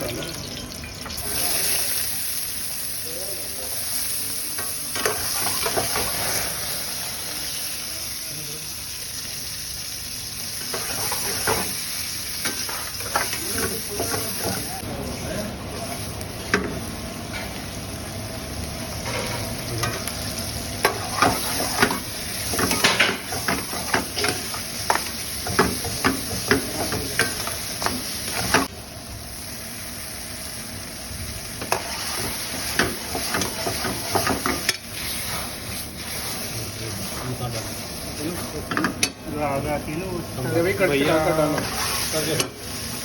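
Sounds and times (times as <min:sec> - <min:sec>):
gravy sizzling in a pot: 0:00.0 - 0:43.0.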